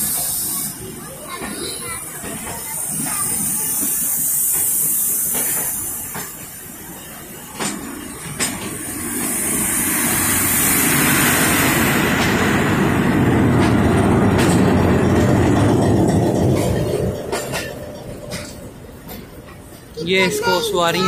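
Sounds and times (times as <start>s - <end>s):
wheels clicking over rail joints: 0.0s - 9.5s, 12.0s - 21.0s
diesel locomotive passing: 0.0s - 21.0s
train running on rails: 0.0s - 21.0s.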